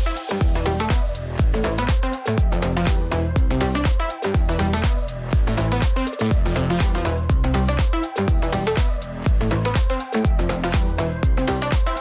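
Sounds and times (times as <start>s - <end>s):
four-on-the-floor kick drum: 0.0s - 12.0s
synth chords: 0.0s - 12.0s.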